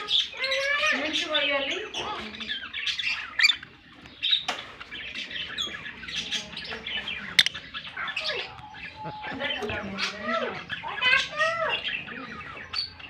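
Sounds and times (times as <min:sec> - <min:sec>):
lovebirds chirping and squawking: 0:00.0 - 0:13.0.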